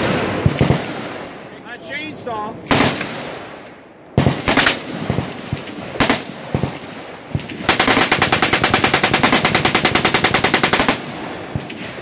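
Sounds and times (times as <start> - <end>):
gunshots: 0.0 - 1.4, 2.6 - 3.6, 4.2 - 12.0.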